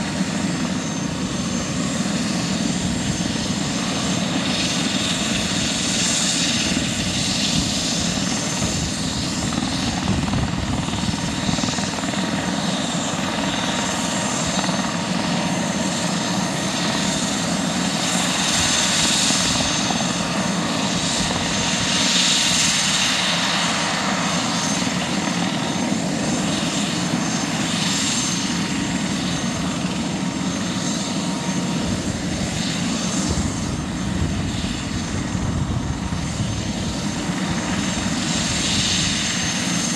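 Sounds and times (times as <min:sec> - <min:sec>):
helicopter engine whine: 0:00.0 - 0:39.9
helicopter rotor noise: 0:00.0 - 0:39.9.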